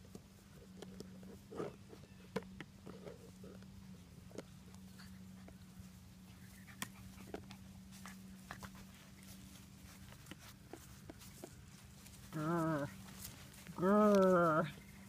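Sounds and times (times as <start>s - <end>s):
light clicks and rustles: 0.0s - 15.0s
low steady hum: 0.0s - 15.0s.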